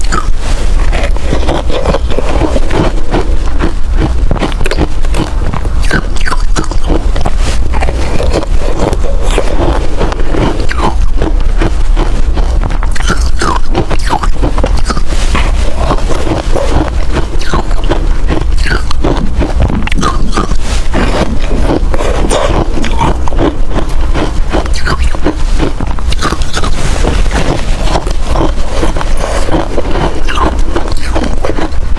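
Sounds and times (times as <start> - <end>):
ice being chewed: 0.0 - 31.9.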